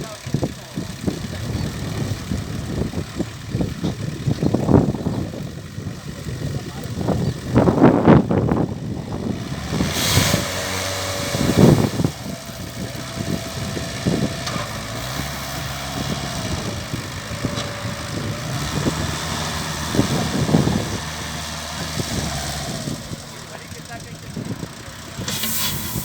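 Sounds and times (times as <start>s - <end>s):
concrete mixer engine running: 0.0s - 26.0s.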